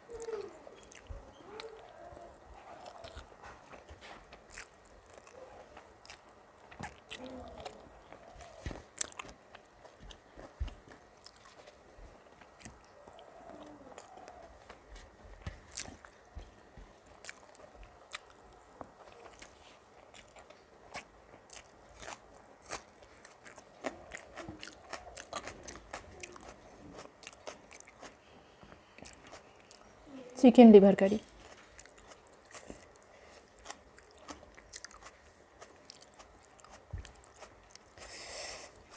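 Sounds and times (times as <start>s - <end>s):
person chewing food: 0.0s - 30.0s, 31.2s - 38.9s.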